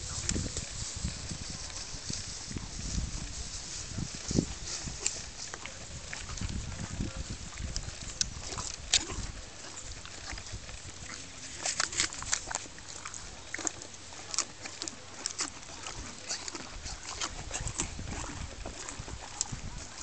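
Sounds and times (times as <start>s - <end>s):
horse lips clicking and rustling: 0.0s - 20.0s.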